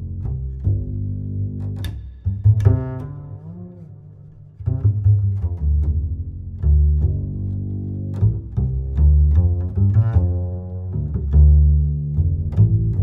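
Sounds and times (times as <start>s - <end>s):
music with deep bass line: 0.0s - 13.0s.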